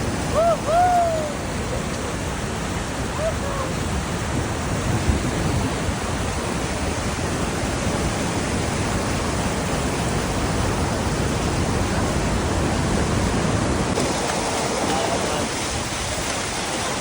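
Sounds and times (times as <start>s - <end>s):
large waterfall rushing: 0.0s - 17.0s.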